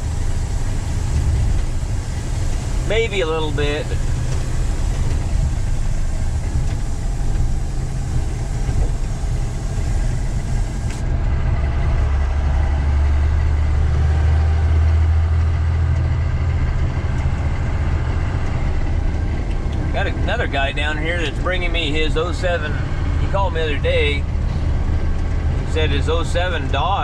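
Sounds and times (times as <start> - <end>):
deep low drone: 0.0 - 27.0
road noise: 0.0 - 27.0
truck engine driving: 0.0 - 27.0.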